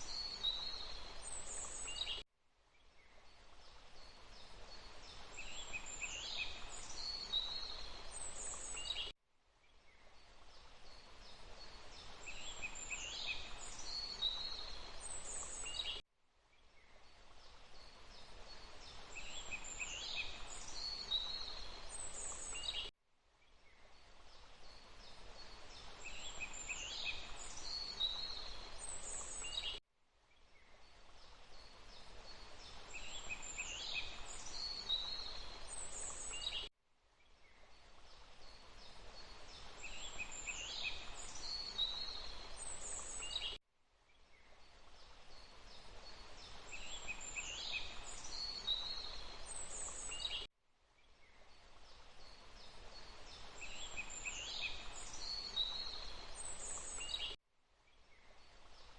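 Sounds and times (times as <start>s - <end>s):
rushing water: 0.0s - 2.1s, 3.2s - 9.0s, 10.1s - 15.9s, 17.0s - 22.7s, 24.0s - 29.7s, 30.8s - 36.6s, 37.8s - 43.5s, 44.6s - 50.3s, 51.5s - 57.2s
songbirds chirping: 0.0s - 58.9s.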